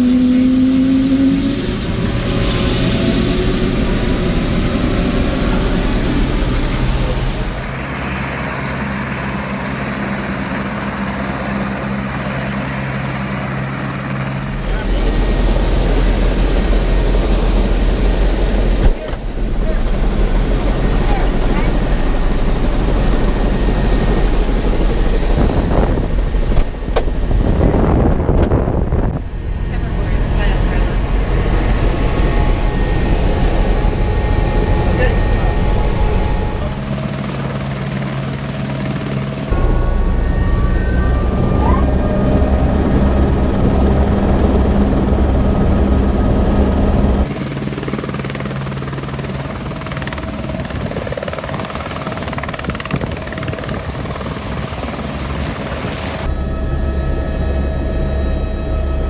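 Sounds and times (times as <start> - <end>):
helicopter turbine and rotor: 0.0 - 59.0
high steady whine: 0.0 - 59.0
low hum: 0.0 - 59.0.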